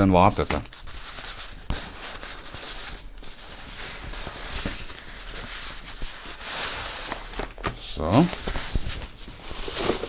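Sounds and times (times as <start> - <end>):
plastic bag rustling and crinkling: 0.2 - 10.0.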